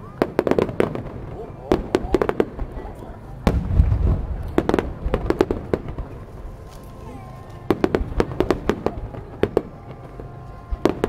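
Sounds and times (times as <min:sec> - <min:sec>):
fireworks crackling pops: 0:00.0 - 0:11.0.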